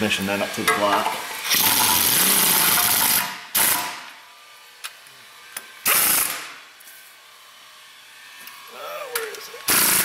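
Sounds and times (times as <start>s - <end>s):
power tool spinning a bolt: 1.2s - 10.0s.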